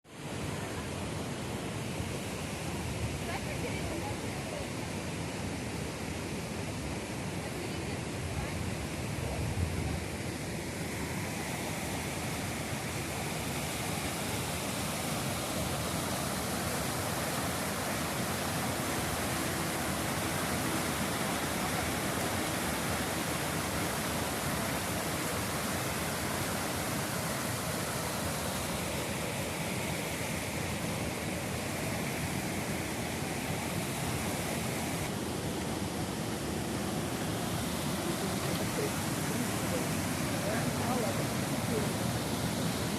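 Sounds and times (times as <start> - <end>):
waterfall rushing over rocks: 0.1 - 42.9.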